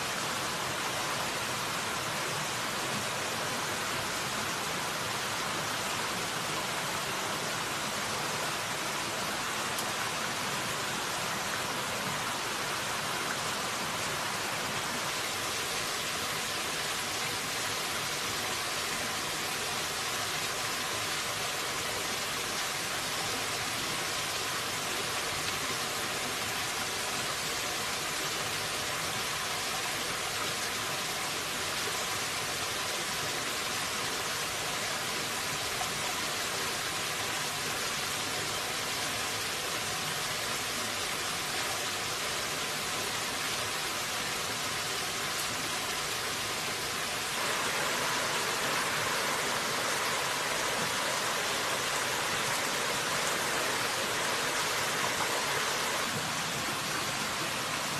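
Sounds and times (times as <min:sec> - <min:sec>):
stream running over rocks: 0:00.0 - 0:57.9.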